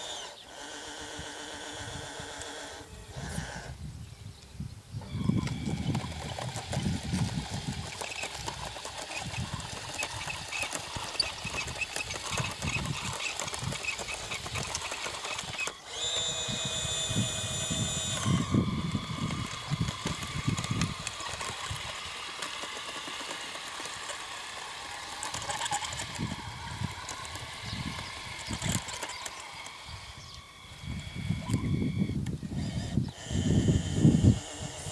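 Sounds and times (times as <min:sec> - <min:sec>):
electric motors and gearboxes whirring: 0:00.0 - 0:03.9, 0:05.0 - 0:34.9.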